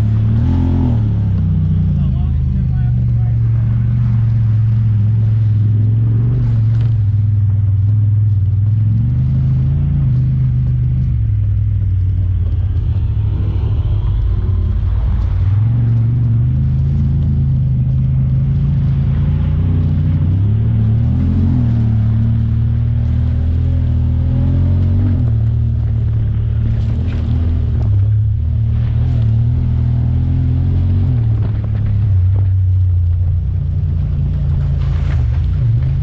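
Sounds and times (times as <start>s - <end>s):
engine revving: 0.0s - 36.0s.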